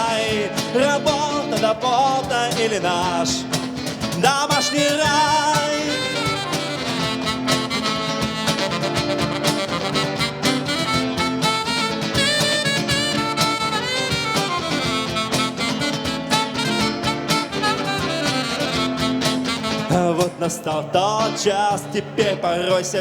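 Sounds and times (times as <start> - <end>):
live band playing: 0.0 - 22.2.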